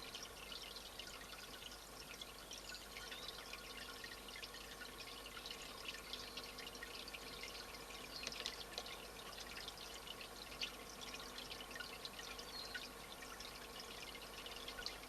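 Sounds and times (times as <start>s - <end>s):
faint steady hum: 0.0s - 15.0s
water trickling and dripping: 0.0s - 15.0s.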